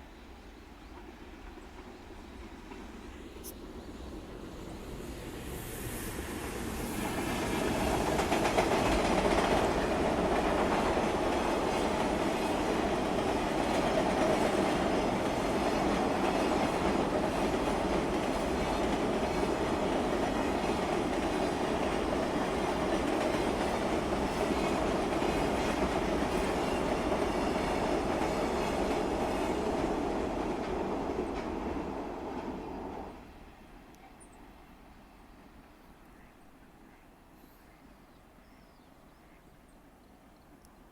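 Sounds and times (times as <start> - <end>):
freight train rumbling past: 0.9 - 33.8.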